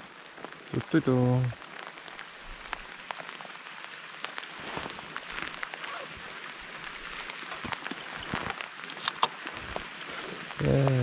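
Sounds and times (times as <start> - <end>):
rain on a helmet: 0.0 - 11.0.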